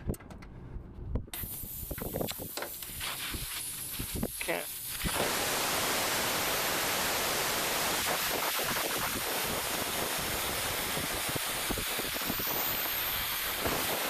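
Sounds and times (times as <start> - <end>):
gas hissing from valve: 1.3 - 14.0.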